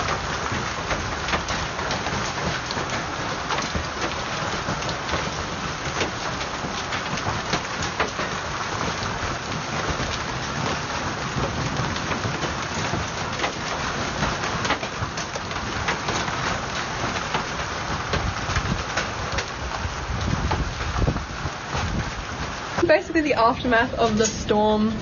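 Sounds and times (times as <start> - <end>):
hailstones striking ground: 0.0 - 25.0
heavy rain hiss: 0.0 - 25.0.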